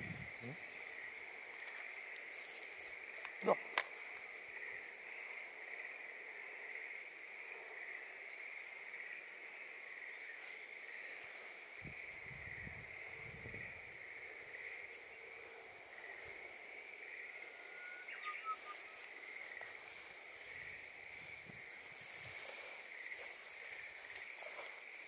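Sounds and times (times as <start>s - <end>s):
insect trill: 0.0s - 25.0s.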